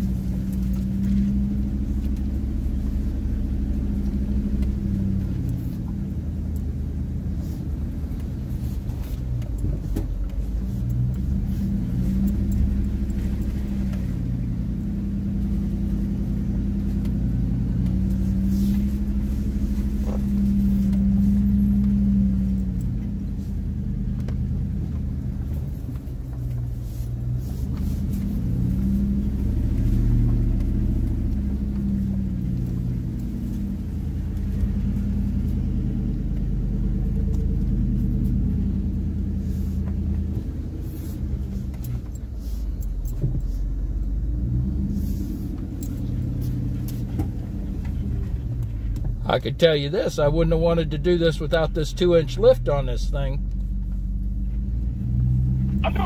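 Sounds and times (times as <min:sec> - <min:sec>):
truck engine revving: 0:00.0 - 0:43.2, 0:43.9 - 0:56.0.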